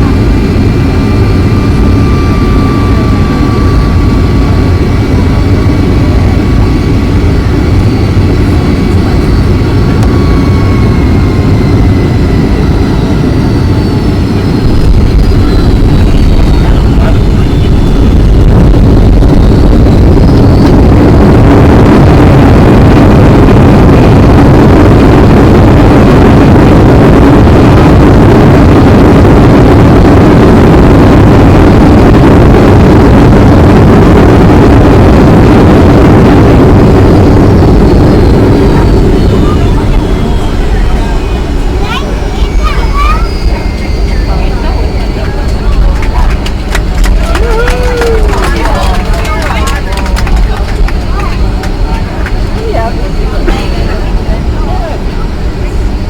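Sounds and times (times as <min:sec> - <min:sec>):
engine reverse thrust roar: 0:00.0 - 0:56.0
jet engine rumble with whine: 0:00.0 - 0:56.0.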